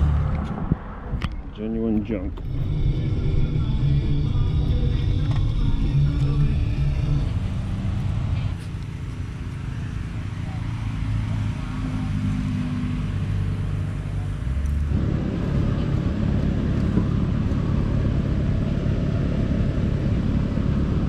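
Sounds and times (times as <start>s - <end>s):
low hum: 0.0s - 12.4s, 13.4s - 21.0s
low outdoor rumble: 0.0s - 21.0s.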